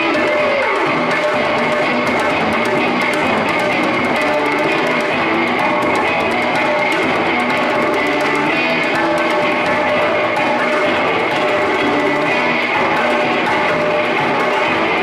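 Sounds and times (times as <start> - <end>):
electric guitar: 0.0 - 15.0
hand drum beaten by hands: 0.0 - 15.0.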